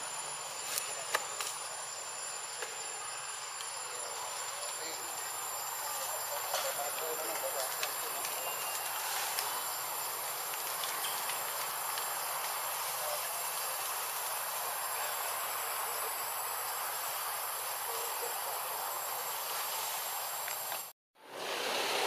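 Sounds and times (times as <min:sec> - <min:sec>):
insect chorus: 0:00.0 - 0:20.9.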